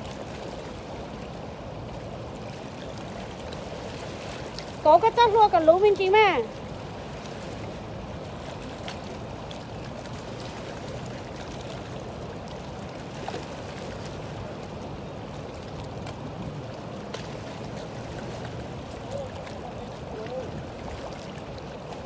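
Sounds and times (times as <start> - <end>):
river rushing past rocks: 0.0 - 22.0.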